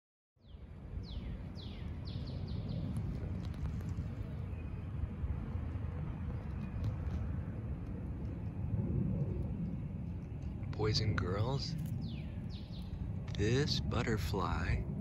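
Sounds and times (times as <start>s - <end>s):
steady low rumble: 0.4s - 15.0s.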